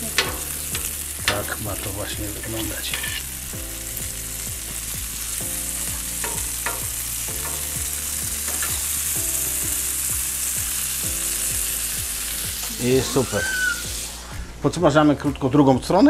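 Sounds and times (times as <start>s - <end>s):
sausages sizzling on a griddle: 0.0s - 14.7s
low tones with low beat: 0.0s - 15.9s.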